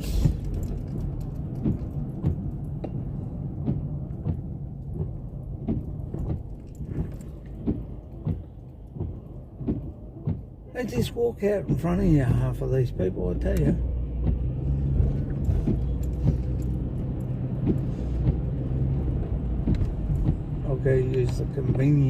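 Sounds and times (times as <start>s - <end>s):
car road noise rumble: 0.0s - 22.0s
light knocks and clicks: 0.2s - 10.5s, 13.4s - 22.0s.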